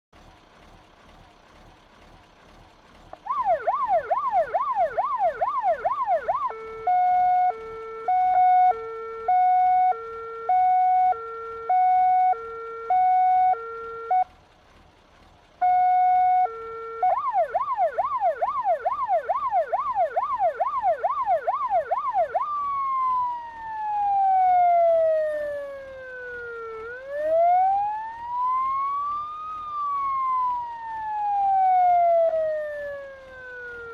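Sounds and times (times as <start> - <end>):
fire engine electronic siren: 3.1 - 14.4, 15.6 - 33.9.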